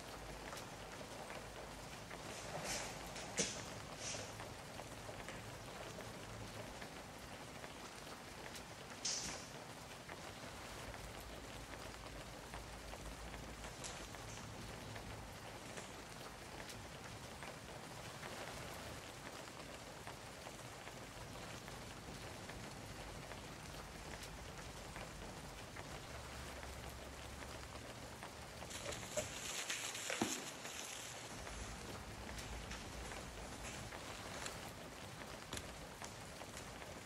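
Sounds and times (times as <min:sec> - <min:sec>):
rain on a metal roof: 0:00.0 - 0:37.0.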